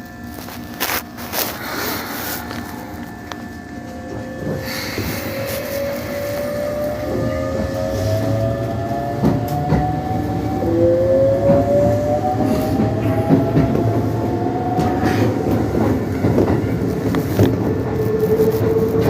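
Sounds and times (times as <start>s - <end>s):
electric train motor whine: 0.0s - 19.0s
train rumble: 0.0s - 19.0s.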